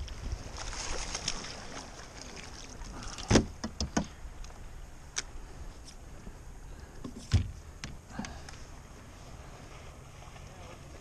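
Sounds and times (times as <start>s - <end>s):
water streaming and dripping: 0.0s - 11.0s.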